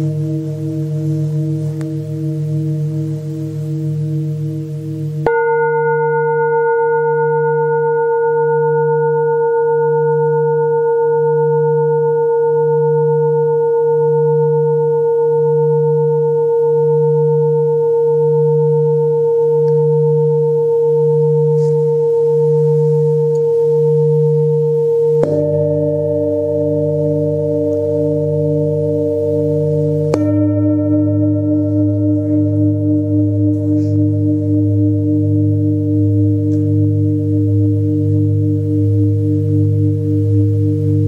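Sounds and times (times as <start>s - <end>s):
low wobbling tone: 0.0s - 41.0s
singing bowl ringing: 0.0s - 41.0s.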